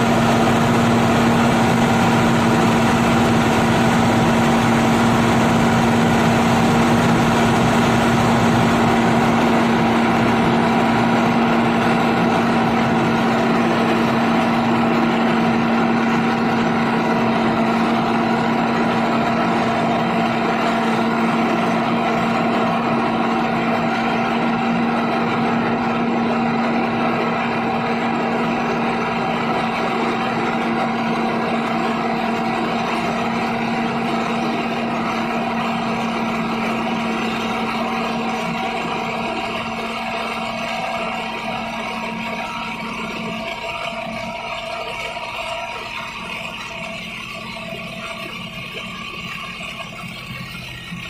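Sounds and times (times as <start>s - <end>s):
diesel truck engine running: 0.0s - 51.0s.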